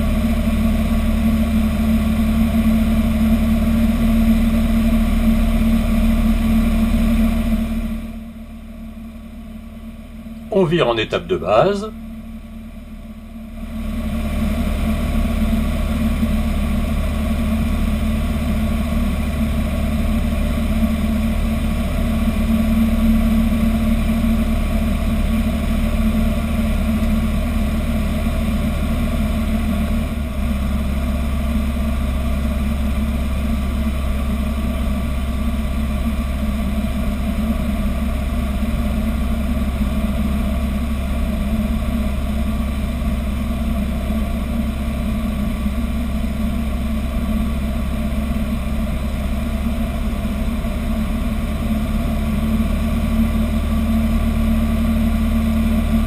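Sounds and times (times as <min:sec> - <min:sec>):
light aircraft engine and propeller: 0:00.0 - 0:10.4, 0:12.0 - 0:56.0.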